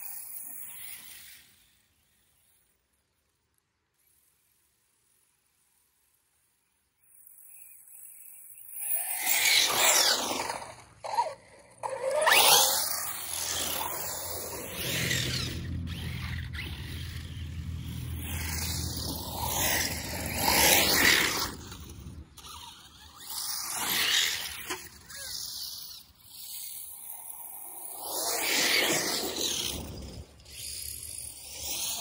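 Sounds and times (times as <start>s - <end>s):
electric toy truck motor whining: 0.0s - 32.0s.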